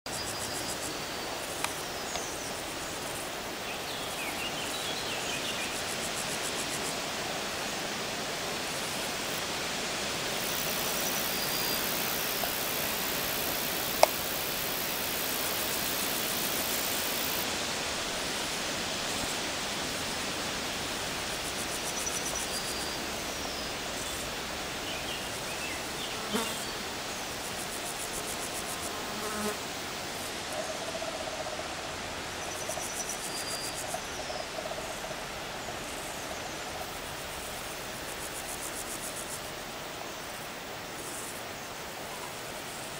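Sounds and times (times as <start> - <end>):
outdoor background hiss: 0.1 - 42.9.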